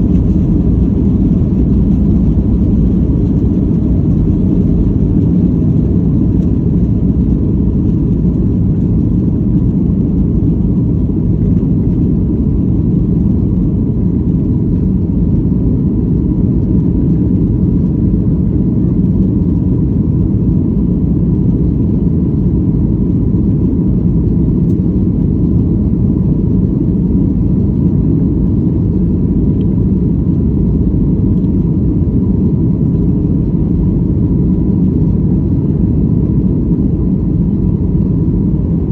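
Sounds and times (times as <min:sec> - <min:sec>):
jet engines deep rumble: 0:00.0 - 0:38.9.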